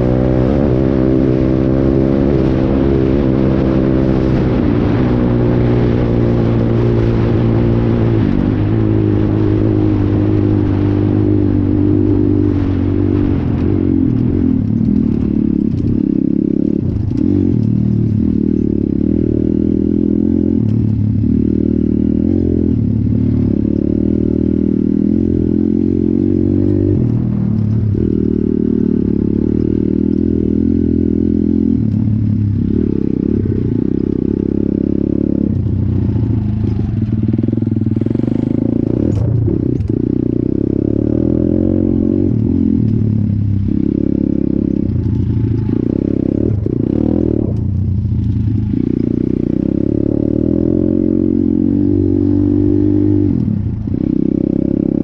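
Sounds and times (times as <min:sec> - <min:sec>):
pit bike engine revving: 0:00.0 - 0:55.0.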